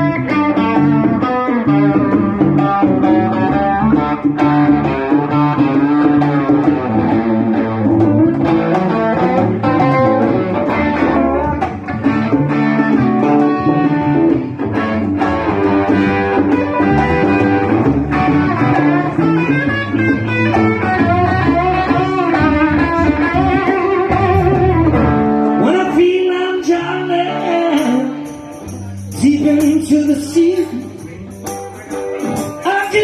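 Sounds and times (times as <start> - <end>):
bass guitar: 0.0 - 33.0
electric guitar lines: 0.0 - 33.0
rhythm guitar: 0.0 - 33.0.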